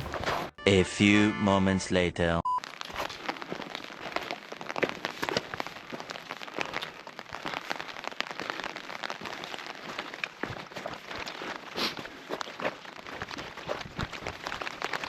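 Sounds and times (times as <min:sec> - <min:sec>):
rain drops ticking: 0:02.6 - 0:15.0.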